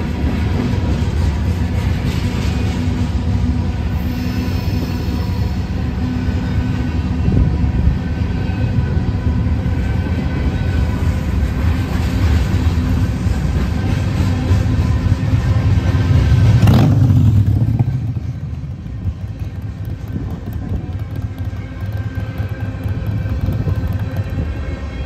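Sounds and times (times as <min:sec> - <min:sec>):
steel wheels rumbling on rail: 0:00.0 - 0:25.0.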